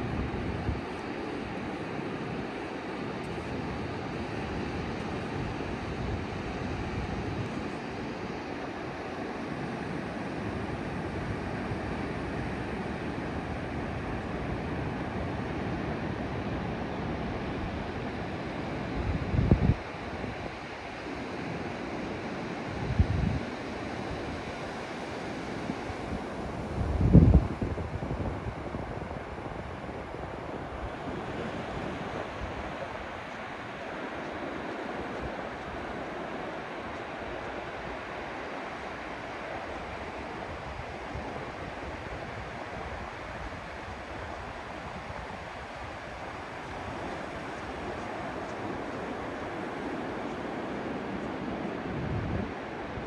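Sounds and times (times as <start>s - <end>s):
wind rumble on microphone: 0.0s - 21.8s, 22.6s - 38.1s, 39.4s - 53.0s
ocean surf on beach: 0.0s - 53.0s.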